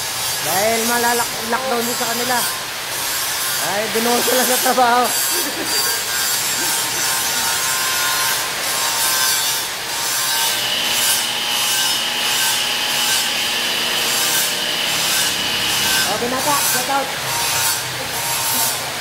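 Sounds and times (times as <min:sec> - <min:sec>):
arc welding crackling: 0:00.0 - 0:19.0.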